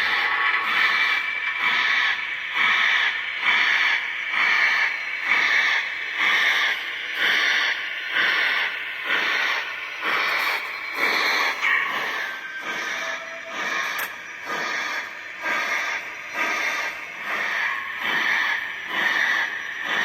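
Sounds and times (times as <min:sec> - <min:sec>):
model steam locomotive chuffs: 0:00.0 - 0:20.0.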